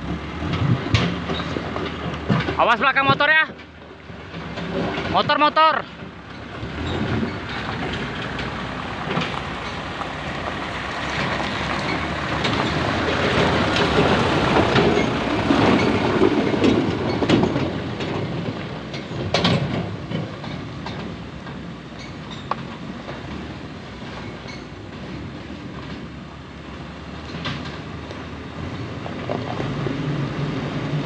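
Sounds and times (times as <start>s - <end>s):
clunk: 0.0s - 10.2s, 11.1s - 26.2s, 27.2s - 28.2s
dump truck driving past: 0.0s - 31.0s
truck body rattling: 0.0s - 31.0s
tyres rolling over gravel: 0.0s - 31.0s.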